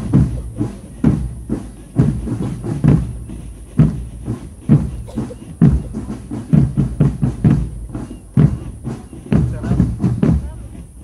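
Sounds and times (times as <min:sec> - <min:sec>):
marching drums beating: 0:00.0 - 0:11.0.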